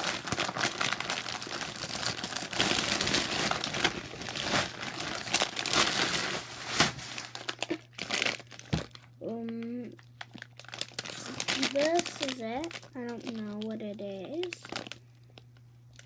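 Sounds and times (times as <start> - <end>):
candy wrappers crinkling: 0.0 - 16.0.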